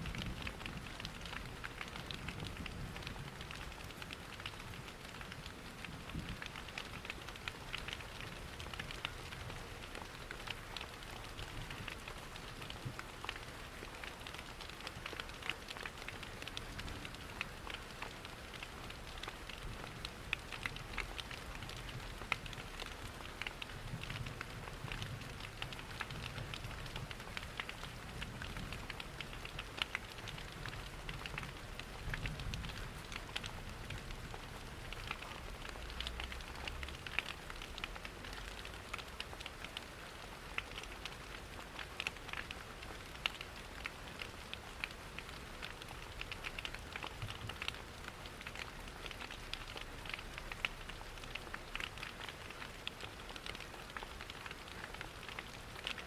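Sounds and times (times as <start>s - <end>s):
steady rain: 0.0s - 56.0s
wood fire crackling: 0.1s - 56.0s.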